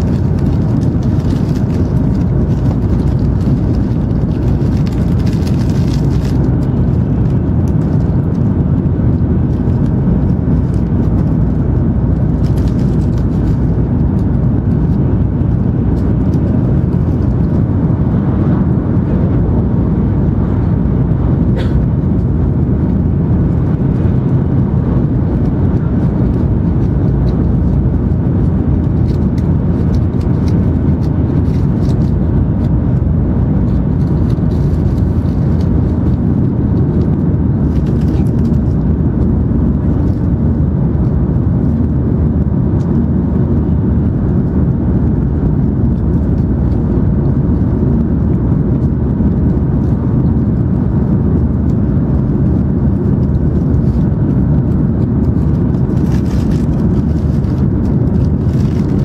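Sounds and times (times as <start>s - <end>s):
train rumble inside cabin: 0.0s - 59.0s.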